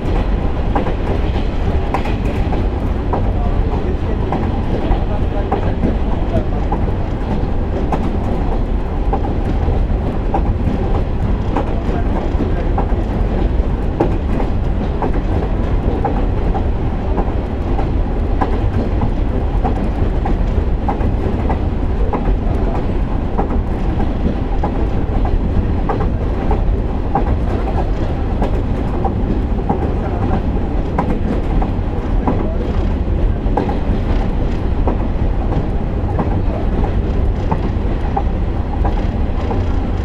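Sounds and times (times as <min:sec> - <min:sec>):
railcar engine and wheels rumbling: 0:00.0 - 0:40.0
wheels clicking over rail joints: 0:00.0 - 0:40.0.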